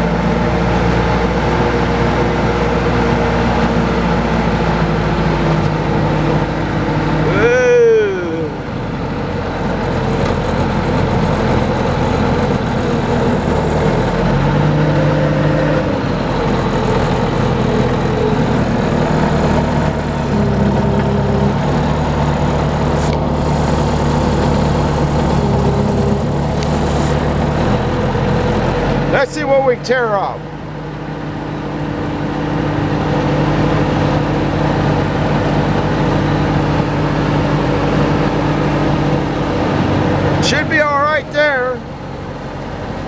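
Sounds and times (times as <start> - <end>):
heavy machine engine running: 0.0 - 43.0.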